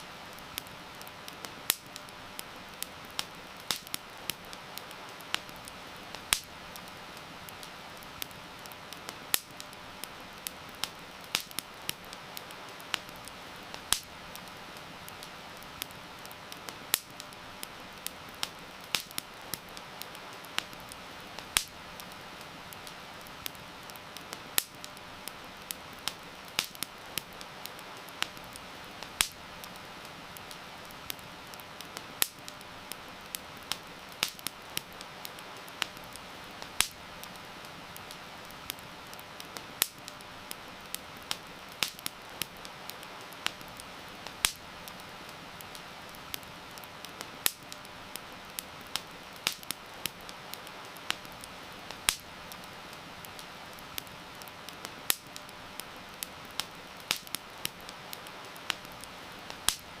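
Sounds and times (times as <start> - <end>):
heavy rain hiss: 0.0 - 60.0
wood fire crackling and popping: 0.0 - 60.0.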